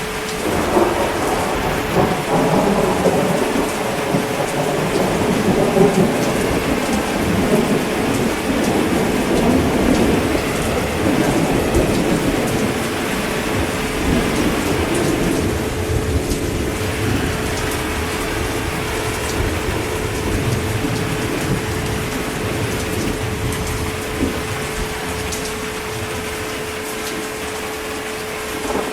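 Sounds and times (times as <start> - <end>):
heavy rain: 0.0 - 28.9
thunder rumbling: 0.0 - 28.9.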